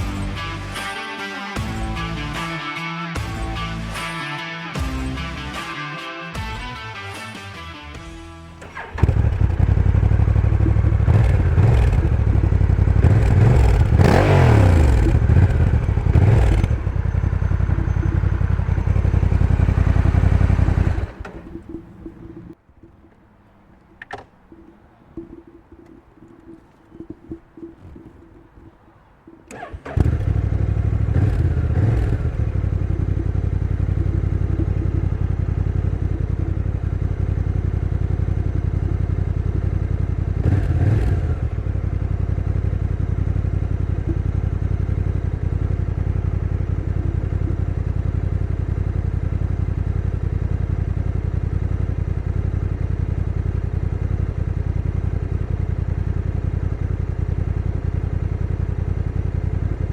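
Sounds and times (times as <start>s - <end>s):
motorcycle engine starting and idling: 0.0s - 0.9s, 1.6s - 7.0s, 7.9s - 59.9s
motorcycle engine revving: 0.0s - 1.0s, 1.6s - 7.0s, 8.5s - 59.9s.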